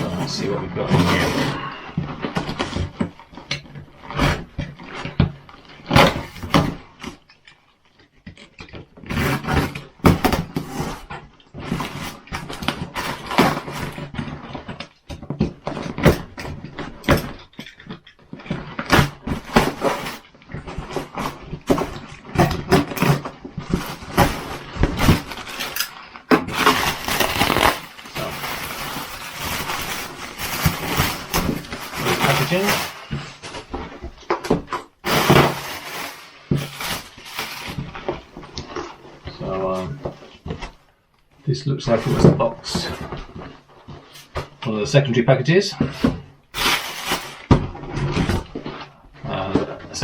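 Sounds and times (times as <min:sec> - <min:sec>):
cardboard parcel being opened: 0:00.0 - 0:07.4, 0:08.4 - 0:41.0, 0:41.8 - 0:45.1, 0:45.8 - 0:50.0
packaging crinkling and rustling: 0:00.0 - 0:45.1, 0:45.8 - 0:50.0.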